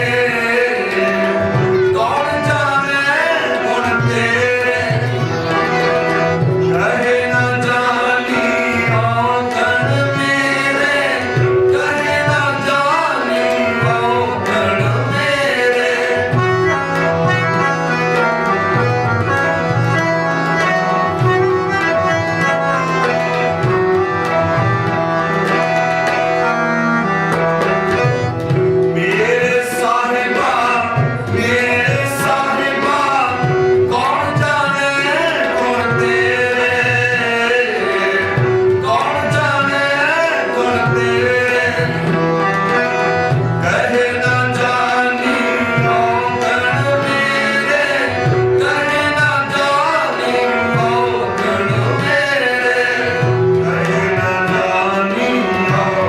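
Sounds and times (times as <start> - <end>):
person singing a hymn: 0.0 - 23.3, 28.9 - 56.0
harmonium: 0.0 - 56.0
tabla: 0.0 - 56.0.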